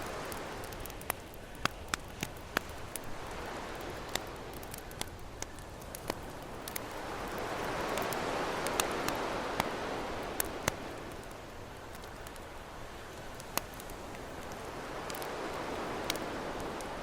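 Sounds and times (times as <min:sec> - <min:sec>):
ocean surf: 0:00.0 - 0:05.1, 0:06.7 - 0:17.0
campfire crackling and popping: 0:00.0 - 0:17.0.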